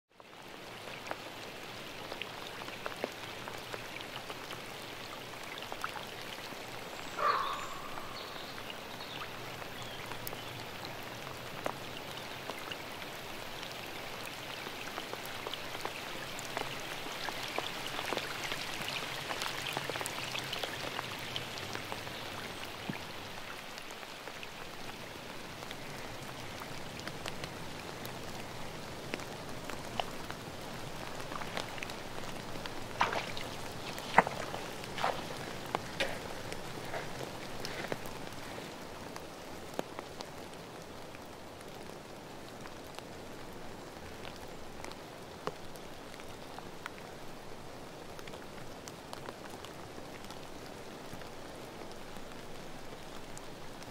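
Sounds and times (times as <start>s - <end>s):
raindrops ticking close by: 0.1s - 53.9s
steady rain falling: 0.1s - 53.9s.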